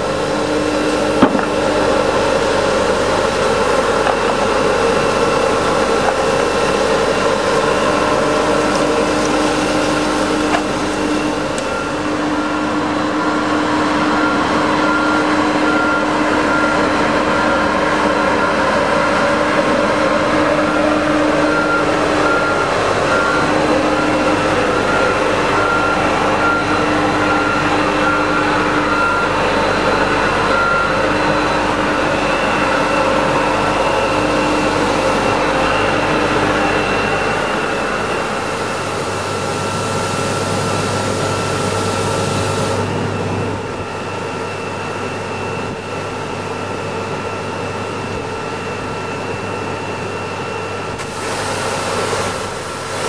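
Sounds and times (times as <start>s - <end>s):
sweeper engine and suction fan: 0.0s - 53.0s
short beeping warning alarm: 0.2s - 42.9s.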